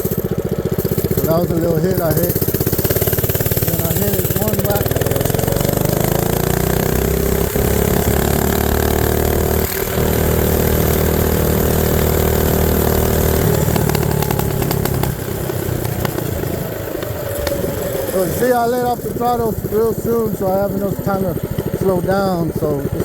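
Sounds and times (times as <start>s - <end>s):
mini bike engine at full throttle: 0.0s - 23.0s.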